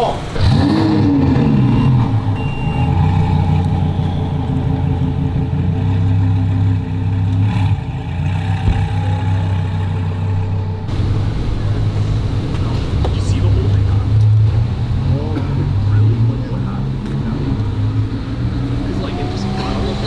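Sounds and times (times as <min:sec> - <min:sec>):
car engines running at low revs: 0:00.3 - 0:20.0.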